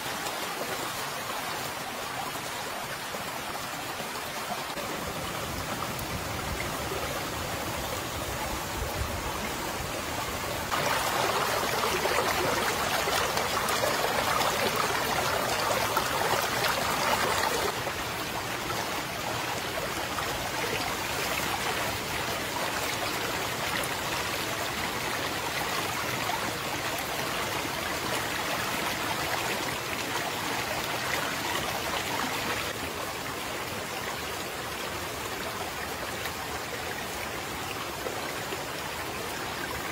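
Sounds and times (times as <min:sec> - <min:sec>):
stream running water: 0:00.0 - 0:39.9.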